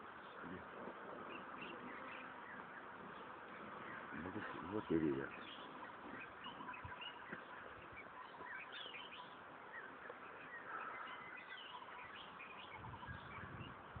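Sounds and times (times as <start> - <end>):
outdoor background hiss: 0.0 - 14.0
wild birds chirping: 0.0 - 14.0.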